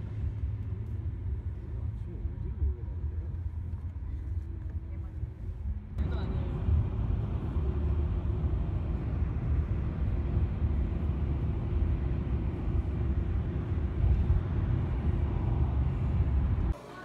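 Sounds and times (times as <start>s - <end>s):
car interior road rumble: 0.0s - 16.8s.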